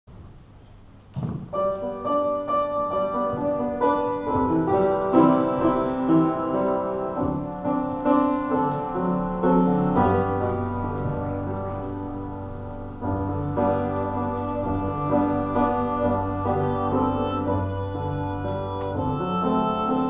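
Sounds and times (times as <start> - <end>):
upright piano playing chords: 1.4 - 20.0.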